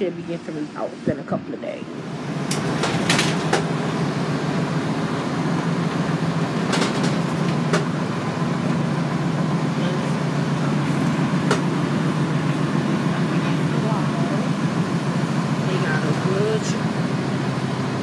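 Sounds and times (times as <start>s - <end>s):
van engine and road noise: 1.6s - 18.0s.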